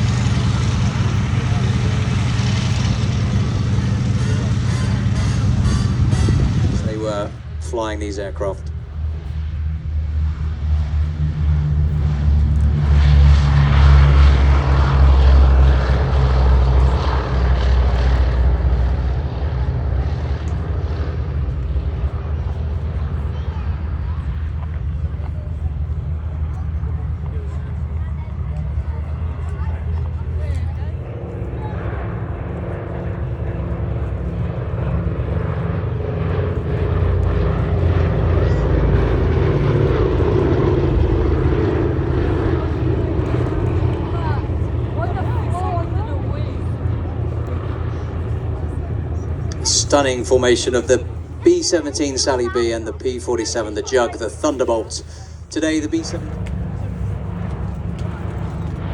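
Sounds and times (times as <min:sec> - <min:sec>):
propeller aircraft engines droning: 0:00.0 - 0:58.9.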